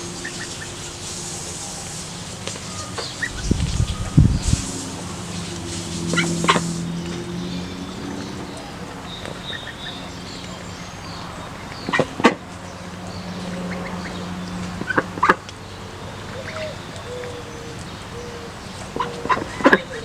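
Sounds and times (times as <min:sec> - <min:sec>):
steady low hum: 0:00.0 - 0:19.6
ducks calling: 0:00.0 - 0:20.0.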